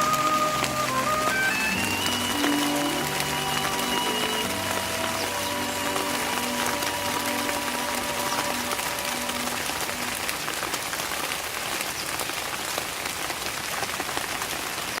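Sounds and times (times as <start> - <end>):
raindrops tapping surfaces: 0.0 - 15.0
steady rain hissing: 0.0 - 15.0.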